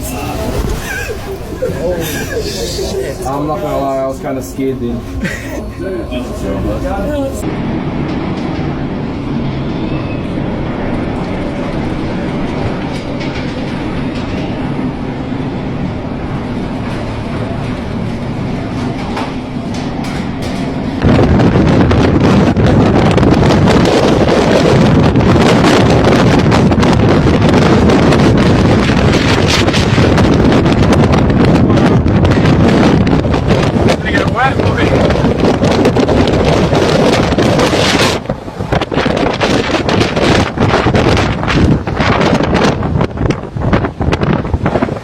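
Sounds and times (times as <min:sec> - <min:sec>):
heavy seas rushing: 0:00.0 - 0:45.0
wind buffeting microphone: 0:00.0 - 0:45.0.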